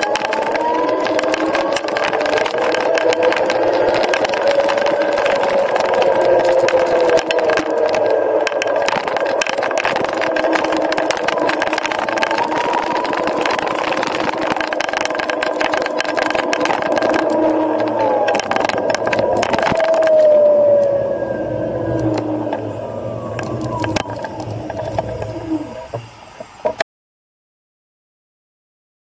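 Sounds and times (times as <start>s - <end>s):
small clicks: 0.0s - 21.0s, 21.8s - 26.8s
electric scooter motor whine: 0.0s - 26.8s
wind noise: 0.0s - 26.8s.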